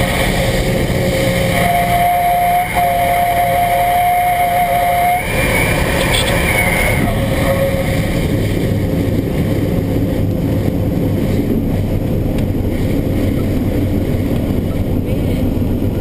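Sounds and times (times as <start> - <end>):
propeller plane engine droning: 0.0 - 16.0
runway rumble: 0.0 - 16.0.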